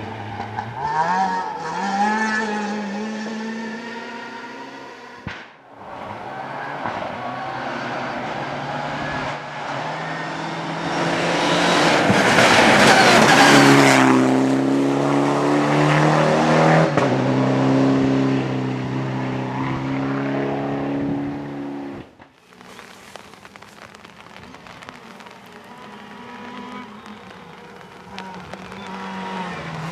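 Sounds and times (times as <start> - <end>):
rally car engine passing: 0.0 - 5.2, 5.8 - 22.1, 24.2 - 29.9
tyre and road noise: 0.0 - 29.9.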